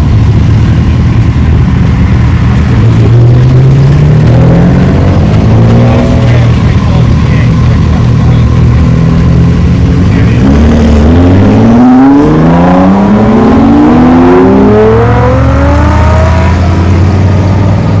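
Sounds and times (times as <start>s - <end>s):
low rumble: 0.0s - 18.0s
sports car accelerating through gears: 0.7s - 18.0s.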